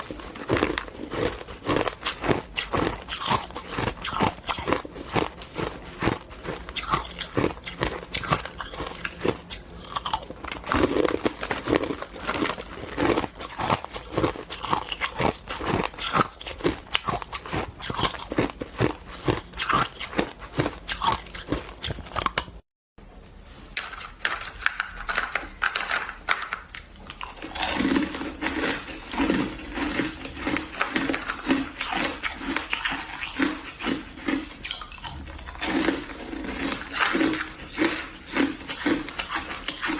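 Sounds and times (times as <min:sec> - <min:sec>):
person chewing crunchy ice: 0:00.0 - 0:22.6, 0:23.9 - 0:39.9.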